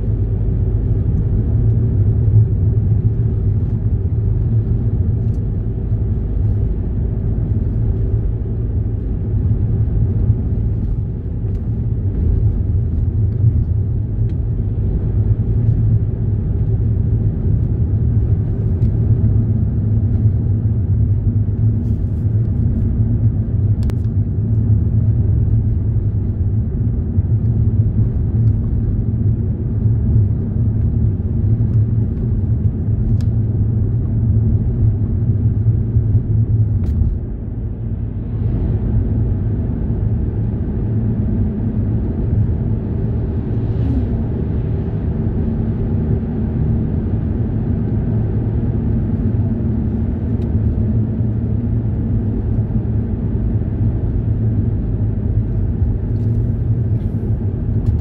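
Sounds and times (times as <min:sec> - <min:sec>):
car interior road rumble: 0:00.0 - 0:58.0.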